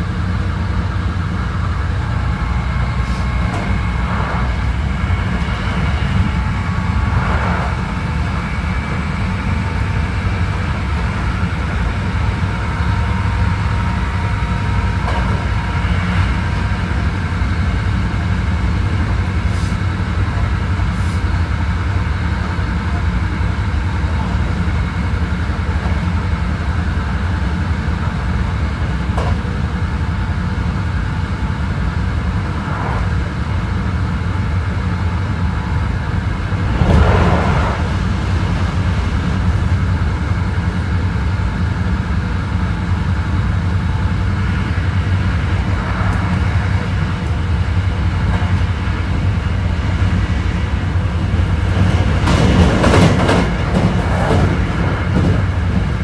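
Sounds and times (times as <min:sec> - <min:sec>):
electric train low rumble: 0:00.0 - 0:56.0.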